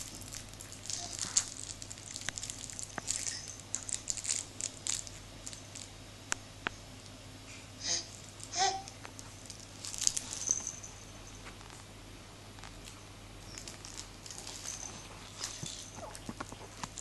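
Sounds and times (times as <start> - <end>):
toy rustling and crinkling: 0.0 - 6.0, 8.1 - 11.9, 12.6 - 17.0.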